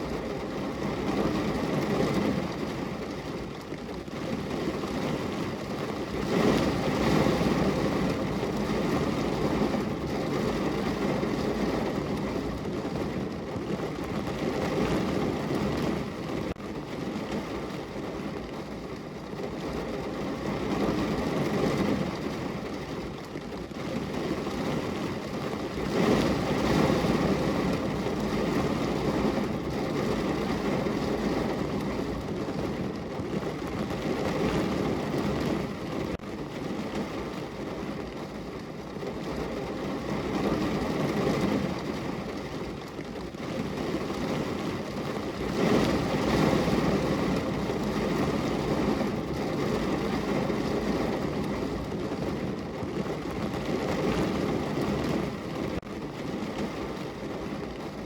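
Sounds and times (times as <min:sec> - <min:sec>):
heavy rain on car roof: 0:00.0 - 0:58.0.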